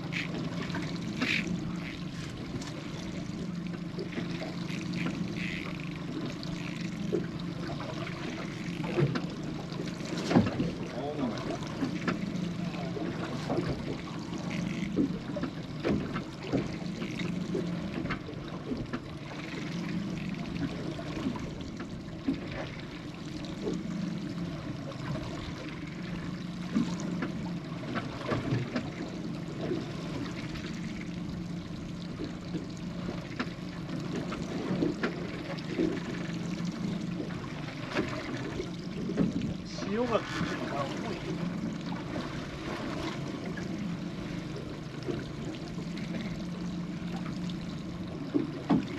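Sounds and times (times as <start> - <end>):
water sloshing against boat hull: 0.0 - 48.9.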